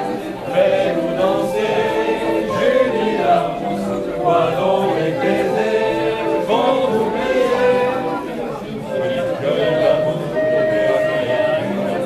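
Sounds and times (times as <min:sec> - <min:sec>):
barrel organ playing: 0:00.0 - 0:12.0
group singing in unison: 0:00.0 - 0:12.0.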